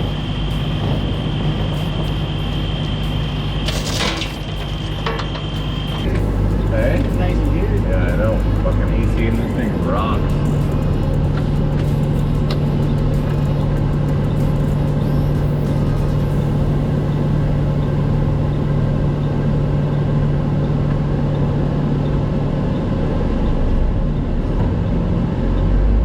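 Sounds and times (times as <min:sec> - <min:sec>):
diesel truck engine droning: 0:00.0 - 0:26.0
road noise: 0:00.0 - 0:26.0.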